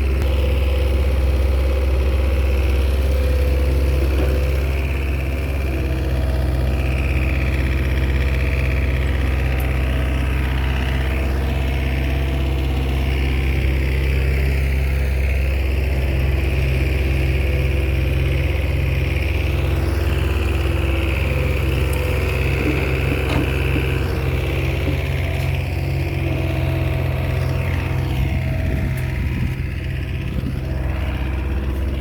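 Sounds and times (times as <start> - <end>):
bulldozer diesel engine droning: 0.0 - 32.0.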